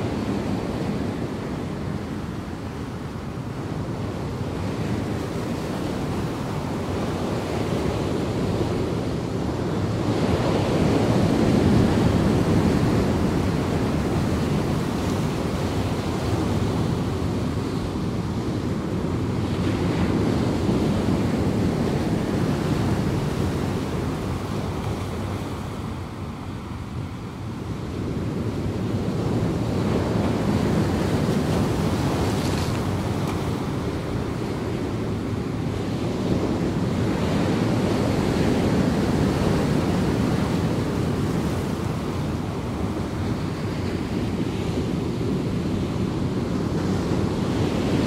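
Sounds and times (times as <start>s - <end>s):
ocean surf breaking: 0.0s - 48.0s
wind on microphone: 0.0s - 48.0s.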